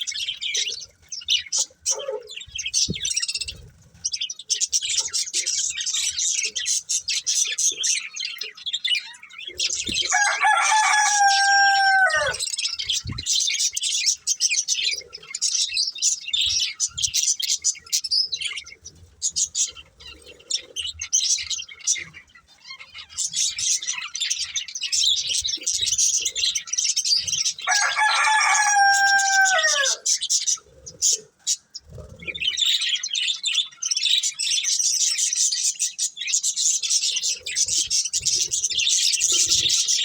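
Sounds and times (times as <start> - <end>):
budgies chattering and chirping: 0.0 - 40.0.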